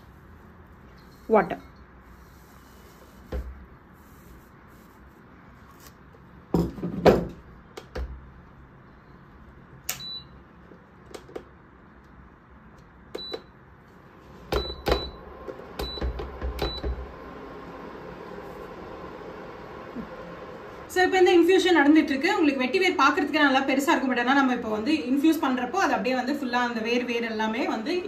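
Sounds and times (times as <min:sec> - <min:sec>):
cooktop steady hum: 0:00.0 - 0:28.0.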